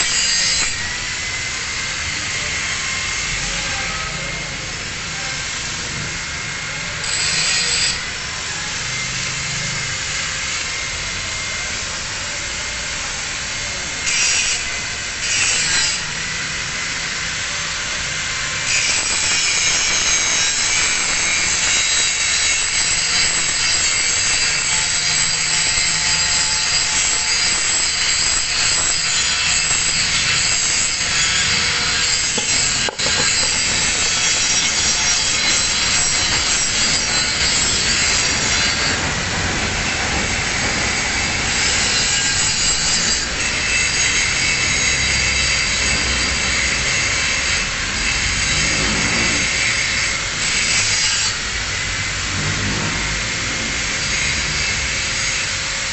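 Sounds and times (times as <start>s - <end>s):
angle grinder grinding steel: 0.0s - 12.4s, 13.3s - 55.9s.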